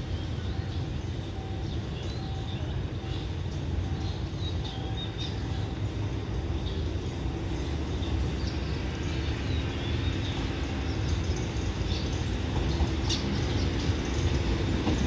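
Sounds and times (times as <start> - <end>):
birds chirping: 0.0 - 15.0
express train rumble: 0.0 - 15.0.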